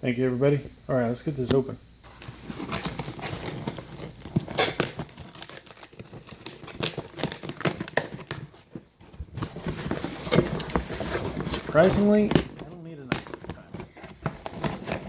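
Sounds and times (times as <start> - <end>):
packing rustling: 2.0 - 15.0
cardboard box tearing: 2.1 - 15.0.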